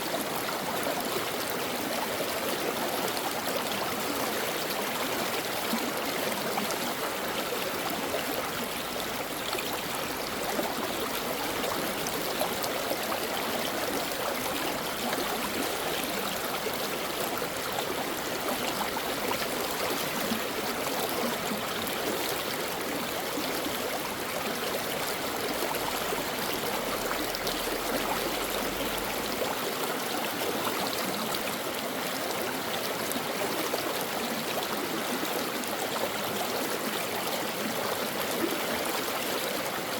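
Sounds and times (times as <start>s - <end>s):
stream water babbling over stones: 0.0s - 39.9s.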